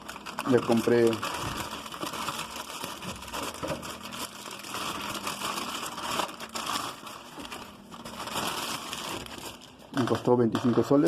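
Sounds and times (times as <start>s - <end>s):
crinkling handling noise: 0.0s - 11.0s.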